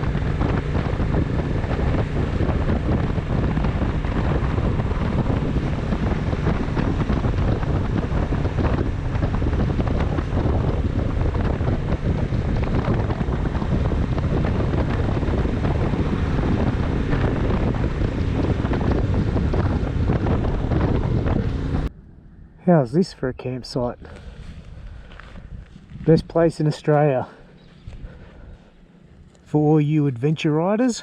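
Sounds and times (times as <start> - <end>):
motorcycle engine: 0.0 - 22.7, 24.1 - 29.8
wind buffeting microphone: 0.0 - 31.0.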